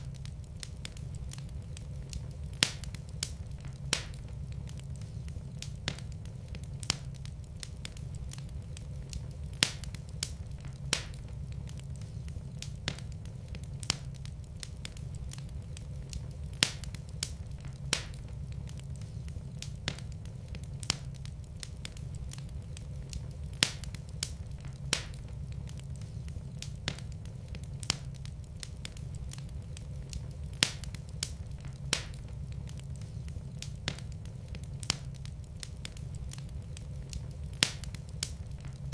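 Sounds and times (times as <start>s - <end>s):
fire rumbling: 0.0s - 38.9s
wood fire popping and snapping: 0.0s - 38.9s.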